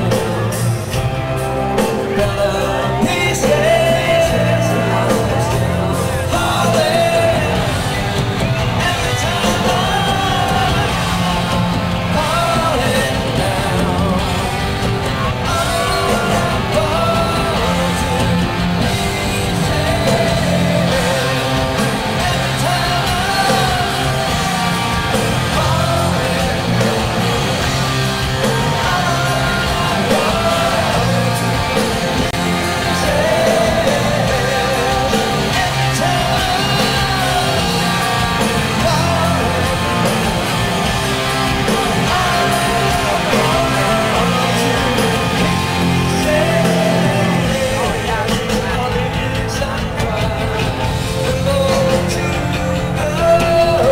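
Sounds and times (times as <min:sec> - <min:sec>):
bass guitar: 0:00.0 - 0:53.9
drums: 0:00.0 - 0:53.9
electric guitars: 0:00.0 - 0:53.9
man singing: 0:00.0 - 0:53.9.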